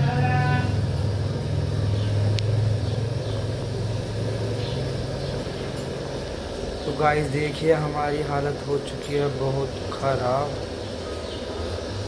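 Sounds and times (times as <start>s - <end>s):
background noise haze: 0.0s - 12.0s.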